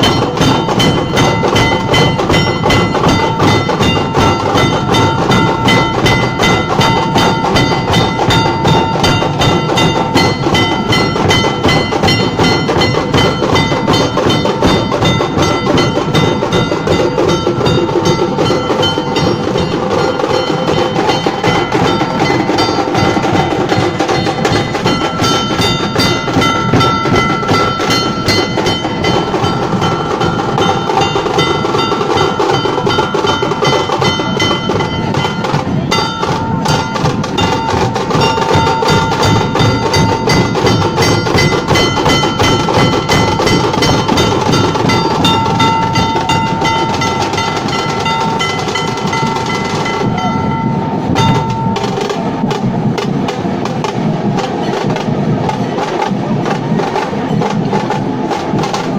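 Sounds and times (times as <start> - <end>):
metallic ringing tones: 0.0 - 52.7
dhol drums beaten fast: 0.0 - 58.9.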